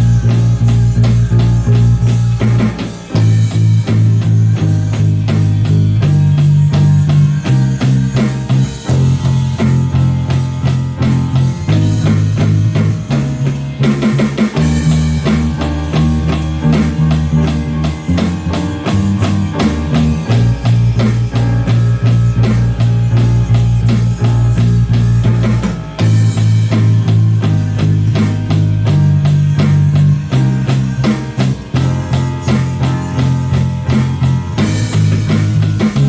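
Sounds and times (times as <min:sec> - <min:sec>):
bass guitar notes: 0:00.0 - 0:36.0
rock band playing: 0:00.0 - 0:36.0
steady drum beat: 0:00.0 - 0:36.0.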